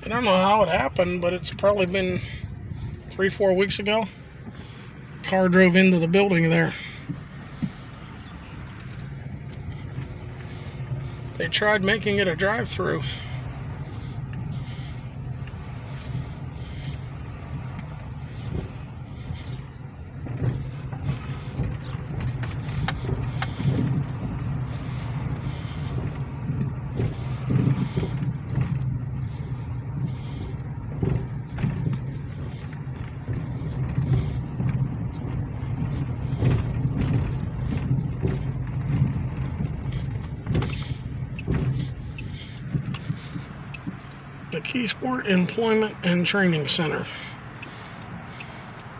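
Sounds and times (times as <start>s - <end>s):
car engine and tyres drone: 0.0s - 48.9s.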